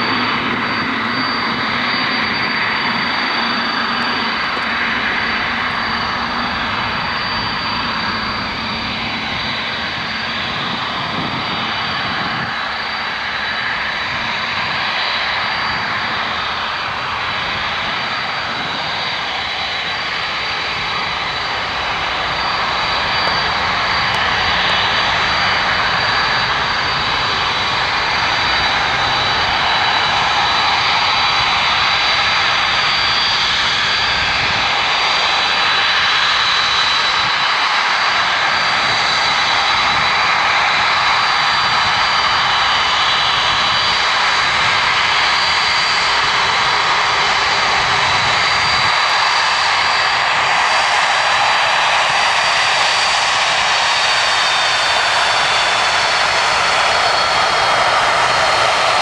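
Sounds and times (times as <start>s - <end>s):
jet engines roaring with whine: 0.0s - 59.0s.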